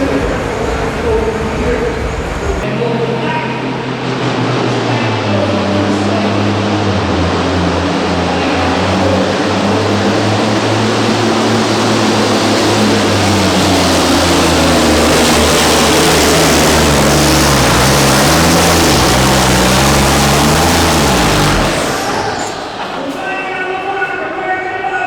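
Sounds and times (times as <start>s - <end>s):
diesel truck engine under load: 0.0s - 24.1s
loud rushing exhaust: 0.0s - 24.2s.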